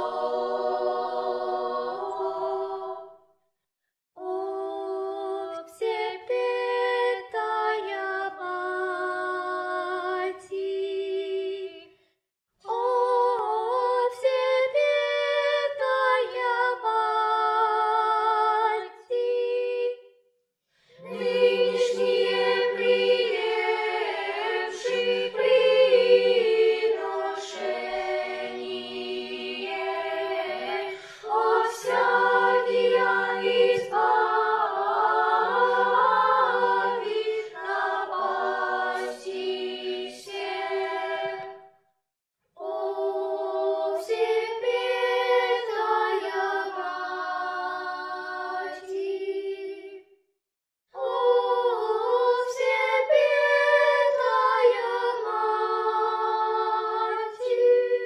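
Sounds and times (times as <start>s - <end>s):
children's choir singing: 0.0s - 3.2s, 4.2s - 11.8s, 12.7s - 20.0s, 21.0s - 41.7s, 42.6s - 50.1s, 51.0s - 58.0s.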